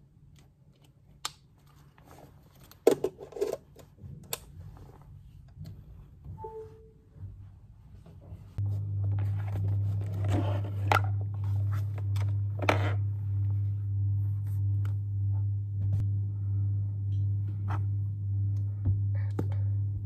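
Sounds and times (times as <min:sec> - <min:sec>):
steady low hum: 0:03.3 - 0:20.0.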